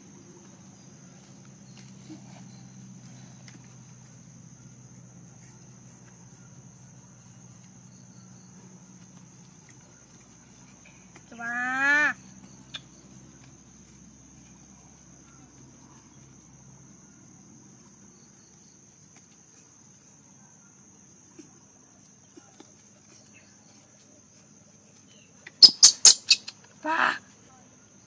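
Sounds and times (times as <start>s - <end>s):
faint outdoor background noise: 0.0s - 28.0s.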